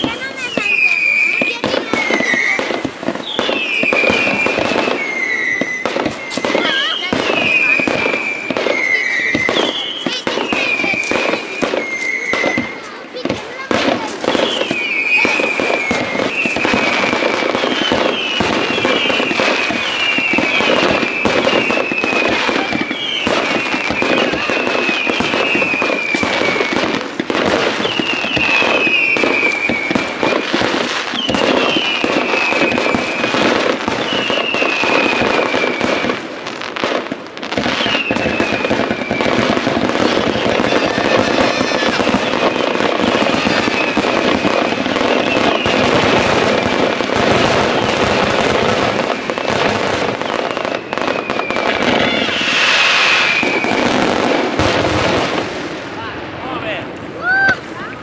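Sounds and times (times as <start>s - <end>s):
falling firework whistles: 0.0s - 55.8s
fireworks bangs and crackles: 0.0s - 58.0s.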